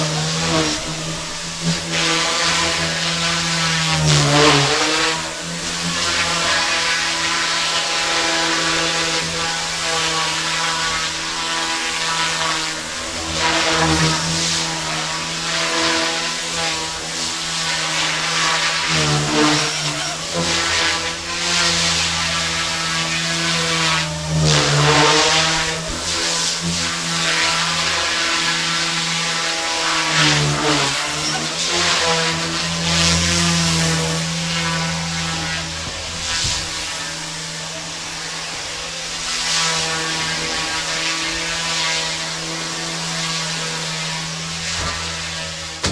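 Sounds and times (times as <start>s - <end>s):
rc helicopter buzzing: 0.0s - 45.9s.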